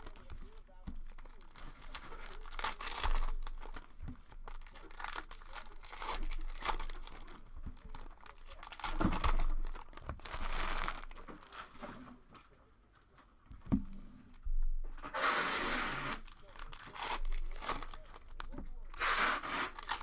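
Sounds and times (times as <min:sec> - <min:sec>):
plastic wrappers tearing and crinkling: 0:00.0 - 0:12.2, 0:15.0 - 0:20.0.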